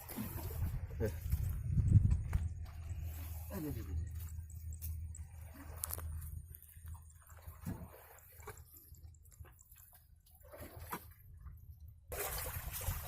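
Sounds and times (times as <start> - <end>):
low steady hum: 0.0 - 13.0
water drips and splashes: 0.0 - 13.0.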